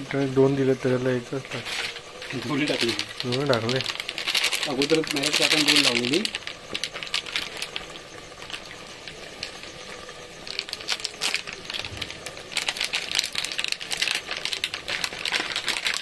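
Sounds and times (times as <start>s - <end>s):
food frying with crackling pops: 0.0s - 16.0s.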